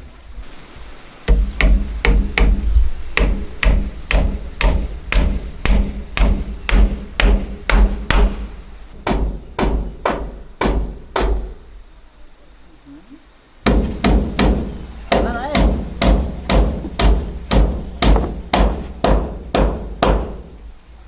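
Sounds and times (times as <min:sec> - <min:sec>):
hammer blows on wood: 0:01.3 - 0:11.6, 0:13.6 - 0:20.5.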